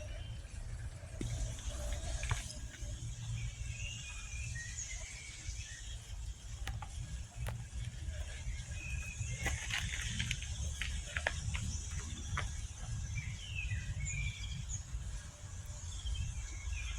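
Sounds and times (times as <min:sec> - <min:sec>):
faint bird chirps: 0:00.0 - 0:16.9
steady low rumble: 0:00.0 - 0:16.9.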